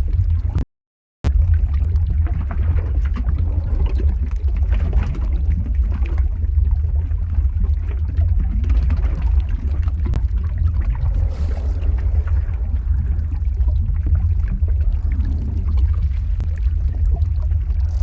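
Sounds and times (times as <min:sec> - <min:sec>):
lava crackling and popping: 0:00.0 - 0:00.6, 0:01.3 - 0:18.0
lava deep rumble: 0:00.0 - 0:00.6, 0:01.3 - 0:18.0.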